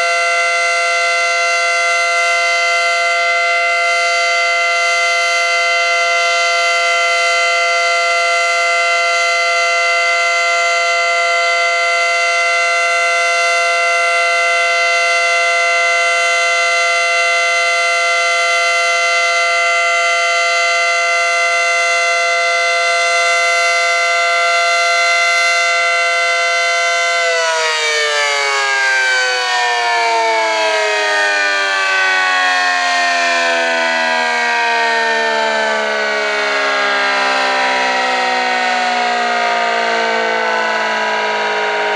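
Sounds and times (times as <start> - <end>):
warning siren two-tone chord: 0.0 - 41.9.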